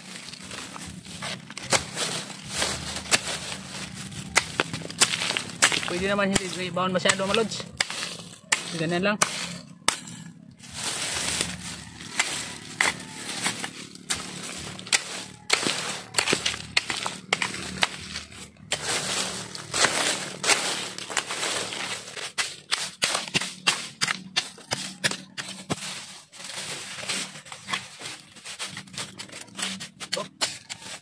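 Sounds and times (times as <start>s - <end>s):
machete chopping into dirt and leaves: 1.2s - 26.0s.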